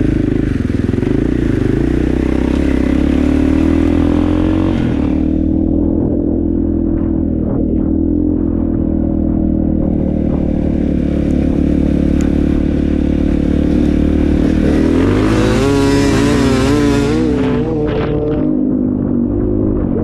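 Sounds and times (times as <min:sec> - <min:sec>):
dirt bike engine revving: 0:00.0 - 0:20.0
rush of noise: 0:00.0 - 0:20.0.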